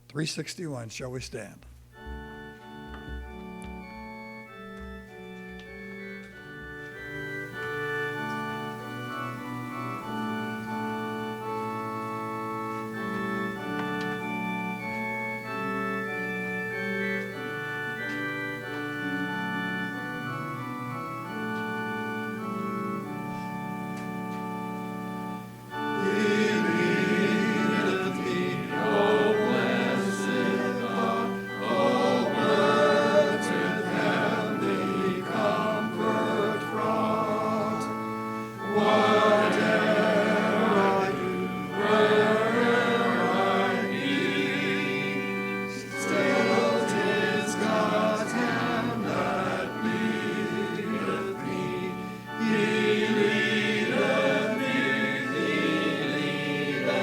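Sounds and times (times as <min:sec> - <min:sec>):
organ accompaniment: 0:00.0 - 0:57.0
congregation singing a hymn: 0:02.0 - 0:57.0.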